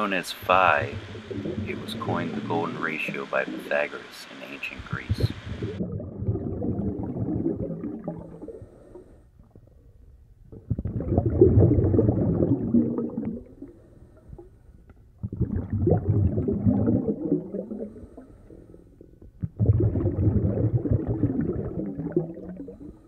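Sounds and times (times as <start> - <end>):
muffled underwater bubbling: 0.0 - 23.0.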